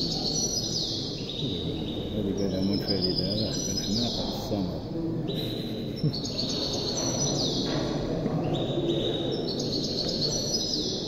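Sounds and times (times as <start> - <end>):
low background noise: 0.0 - 11.0
songbird singing trills: 0.0 - 11.0.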